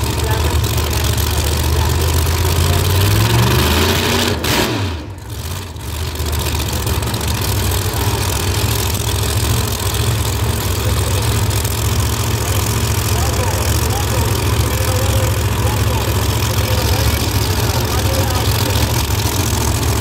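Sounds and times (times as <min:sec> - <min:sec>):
racing car engines running: 0:00.0 - 0:20.0.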